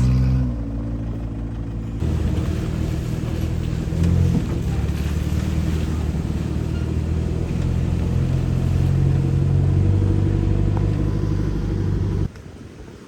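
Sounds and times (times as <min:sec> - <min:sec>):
engine running under load: 0:00.0 - 0:12.3.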